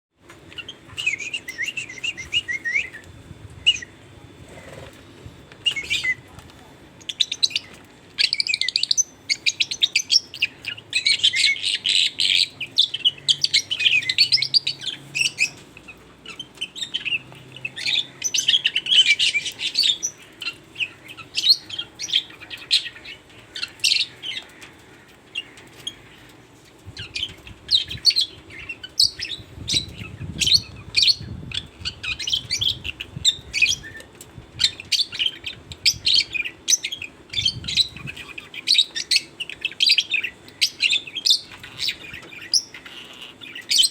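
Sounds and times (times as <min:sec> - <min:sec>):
lovebirds chirping: 0:00.4 - 0:43.9.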